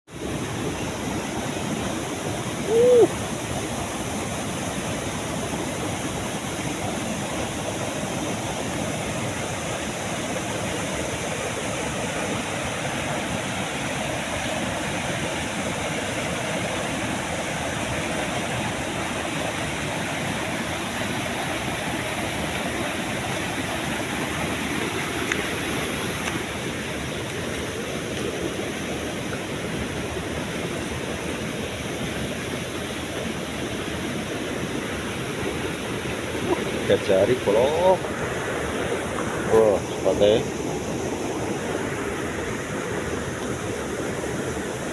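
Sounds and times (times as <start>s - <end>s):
flowing stream water: 0.1s - 44.9s.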